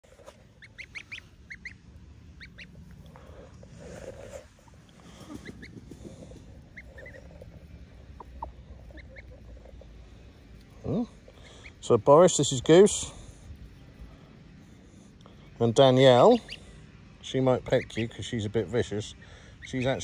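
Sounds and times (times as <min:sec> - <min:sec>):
goslings peeping: 0:00.1 - 0:20.0.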